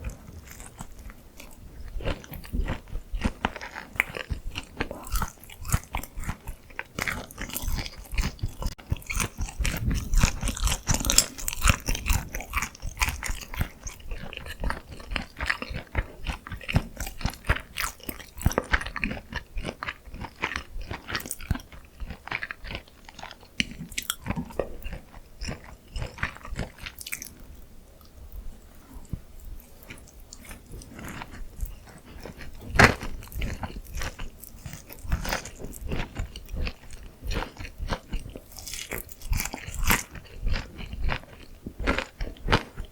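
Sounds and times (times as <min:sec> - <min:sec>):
crunchy chewing of fried chicken: 0:00.0 - 0:42.9.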